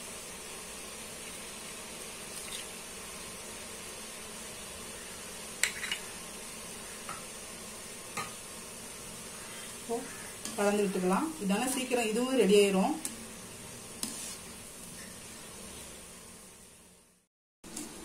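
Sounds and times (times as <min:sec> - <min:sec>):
batter deep-frying in oil: 0:00.0 - 0:18.0.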